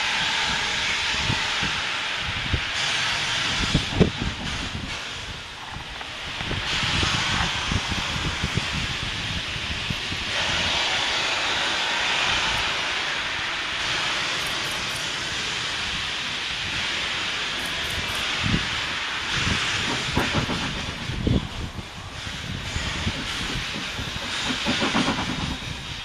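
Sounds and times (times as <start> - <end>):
steam hissing: 0.0 - 26.0.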